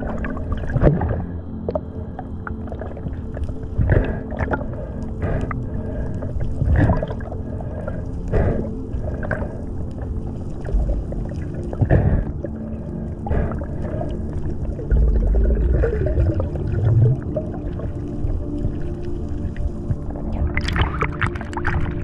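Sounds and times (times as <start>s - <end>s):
steady low hum: 0.0s - 22.0s
water swishing underwater: 0.0s - 22.0s.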